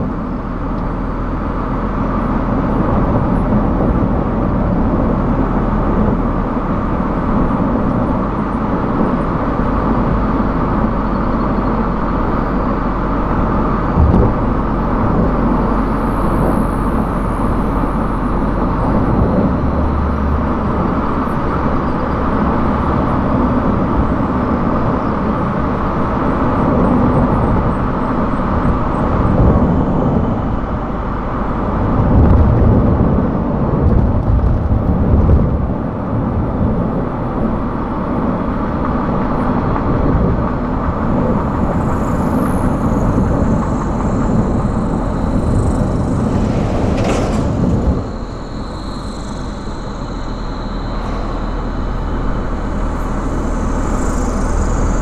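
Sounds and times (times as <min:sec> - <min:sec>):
car engine running: 0:00.0 - 0:55.0
tyres on road: 0:00.0 - 0:55.0.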